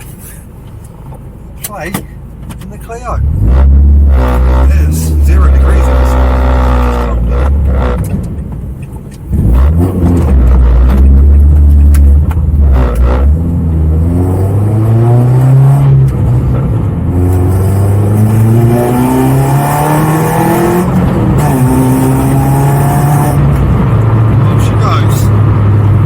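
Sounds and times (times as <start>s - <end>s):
car engine accelerating: 3.1s - 26.0s.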